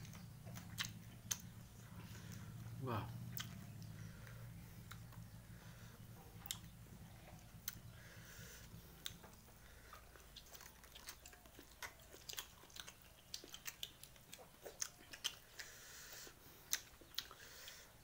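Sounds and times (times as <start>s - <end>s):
wet chewing clicks: 0.0s - 18.0s.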